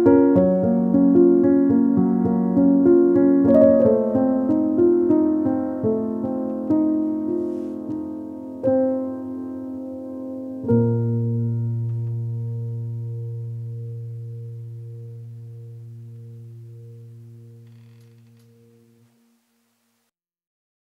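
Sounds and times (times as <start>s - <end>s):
piano chords: 0.0s - 19.0s.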